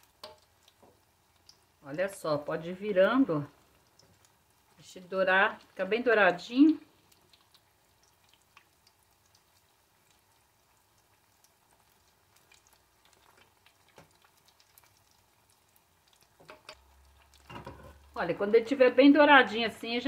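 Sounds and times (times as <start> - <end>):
oil sizzling and popping: 0.0 - 20.0.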